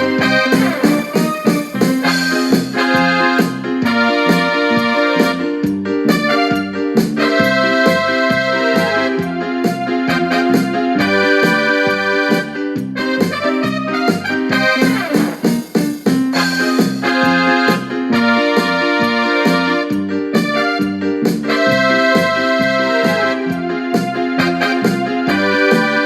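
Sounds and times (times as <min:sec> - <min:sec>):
bass line: 0:00.0 - 0:26.0
keyboard chords: 0:00.0 - 0:26.0.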